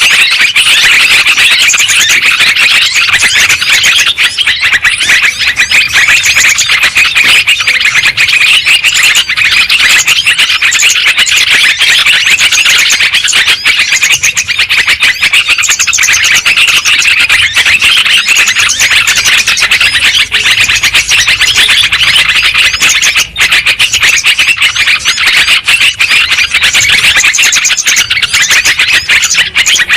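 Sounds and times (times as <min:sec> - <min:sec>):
recorded bird chattering: 0:00.0 - 0:29.9.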